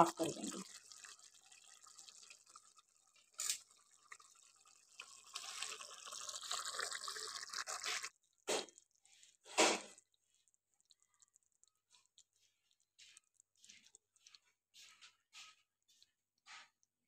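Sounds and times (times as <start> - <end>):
curry bubbling and sizzling in a pot: 0.0 - 17.0.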